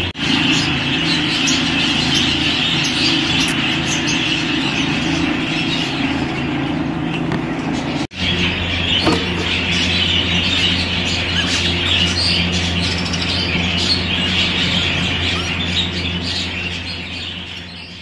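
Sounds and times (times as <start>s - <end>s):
budgerigars chattering and warbling: 0.0s - 18.0s
steady low hum: 0.0s - 18.0s.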